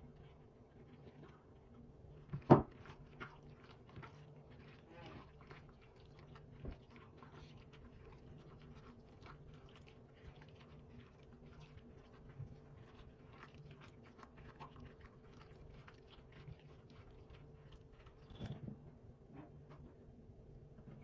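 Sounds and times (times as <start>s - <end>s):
hand mixing wet chicken squelches: 0.0s - 18.9s.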